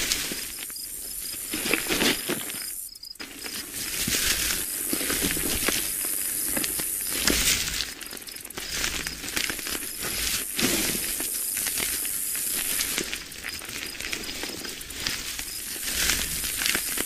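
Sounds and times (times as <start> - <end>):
beetle clicks and scratchy crackles: 0.0 - 17.0
steady hiss: 0.0 - 17.0.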